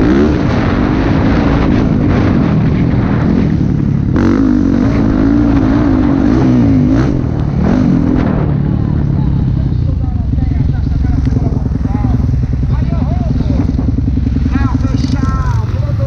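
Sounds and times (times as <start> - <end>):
motorbike engine revving: 0.0 - 16.0
wind rushing: 0.0 - 16.0.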